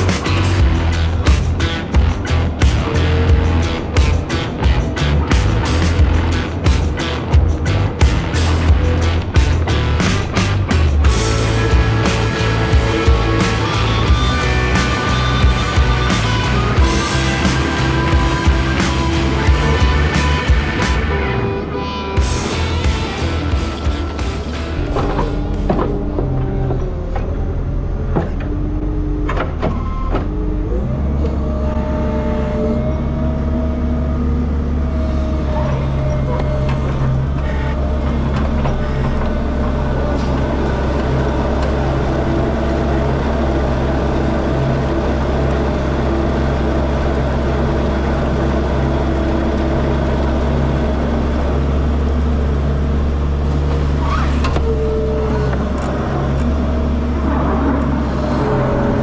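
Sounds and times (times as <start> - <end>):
skid steer engine running: 0.0 - 59.0.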